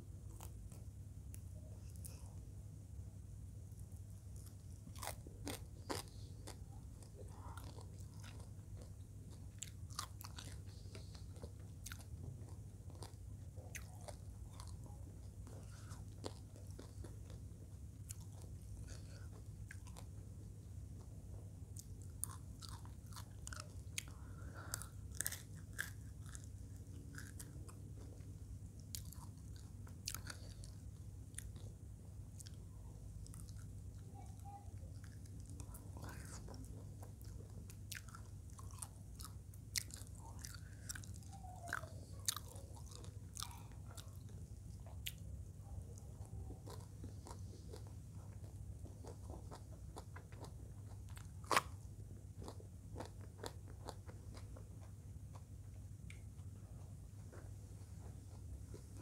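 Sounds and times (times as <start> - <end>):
steady low hum: 0.0 - 59.0
chewing mouth sounds: 3.9 - 59.0.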